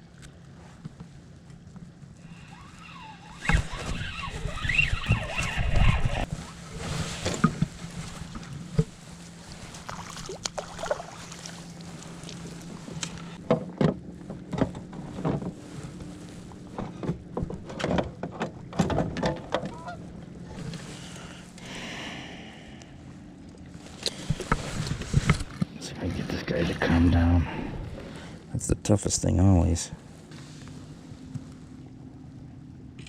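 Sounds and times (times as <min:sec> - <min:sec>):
low hum: 0:00.0 - 0:29.1, 0:29.8 - 0:33.0.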